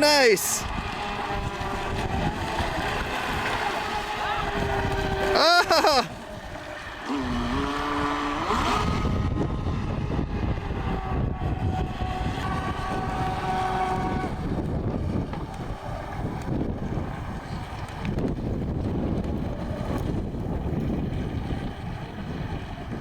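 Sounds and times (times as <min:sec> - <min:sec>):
remote-control boat motor whining: 0:00.0 - 0:23.0
wind noise on microphone: 0:00.0 - 0:23.0.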